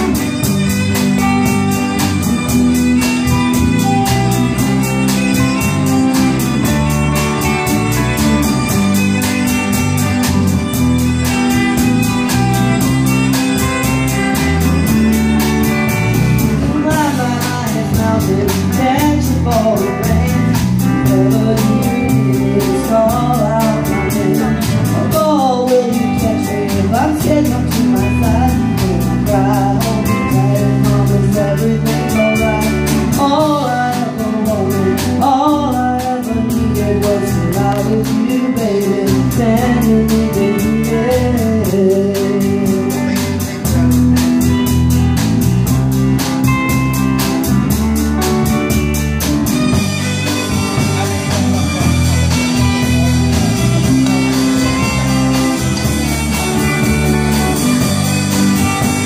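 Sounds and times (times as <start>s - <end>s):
bass guitar: 0.0s - 59.0s
drum kit steady beat: 0.0s - 59.0s
electric guitars: 0.0s - 59.0s
electric violin: 0.0s - 59.0s.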